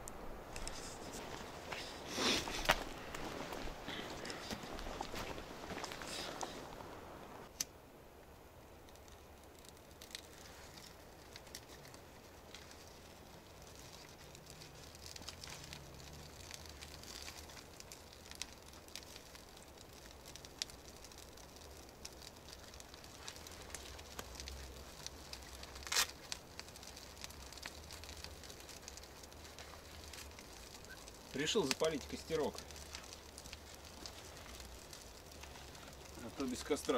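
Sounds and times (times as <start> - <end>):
campfire crackling and popping: 0.0 - 36.9
loud campfire crack: 0.0 - 36.9.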